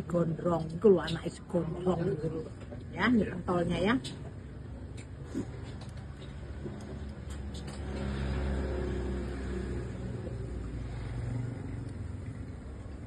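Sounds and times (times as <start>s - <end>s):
vehicle engine rumbling: 2.2s - 13.0s.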